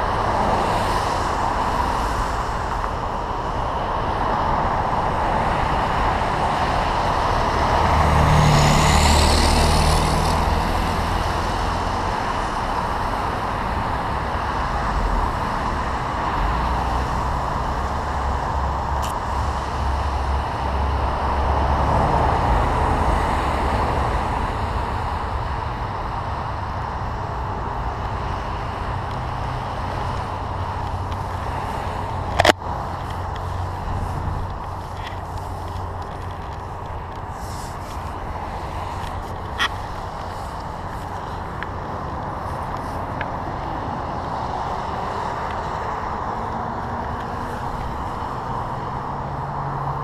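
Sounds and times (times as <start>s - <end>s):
truck passing close: 0.0s - 50.0s
wind rushing over microphone: 0.0s - 50.0s.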